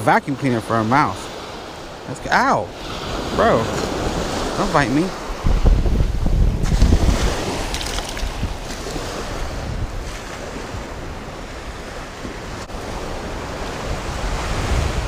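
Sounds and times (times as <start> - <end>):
ocean surf breaking: 0.0 - 15.0
wind buffeting microphone: 1.4 - 15.0.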